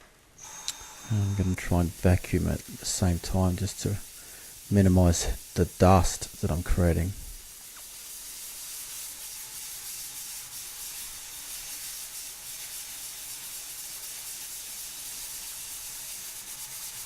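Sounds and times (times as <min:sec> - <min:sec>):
sanding plaster rubbing hiss: 0:00.4 - 0:17.0.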